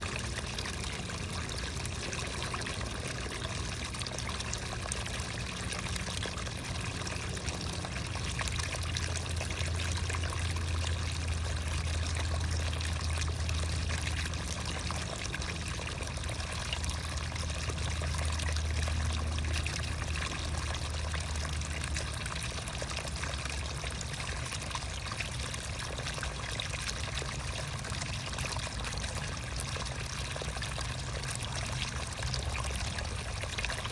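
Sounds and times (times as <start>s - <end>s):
creek water trickling: 0.0s - 33.9s.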